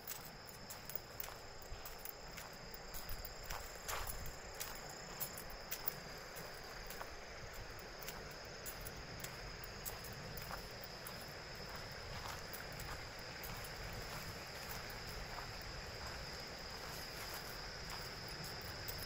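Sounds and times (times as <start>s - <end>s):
footsteps on dry dirt: 0.0s - 19.0s
insects trilling: 0.0s - 19.0s.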